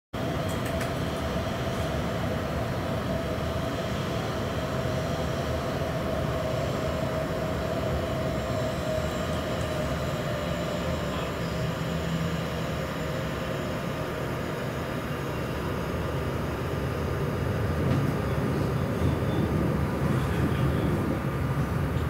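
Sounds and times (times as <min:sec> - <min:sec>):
jet engines running: 0:00.2 - 0:22.0.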